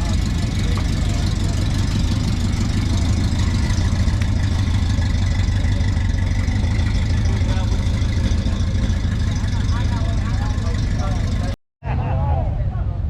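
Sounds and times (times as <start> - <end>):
vehicle engine idling: 0.0 - 11.6.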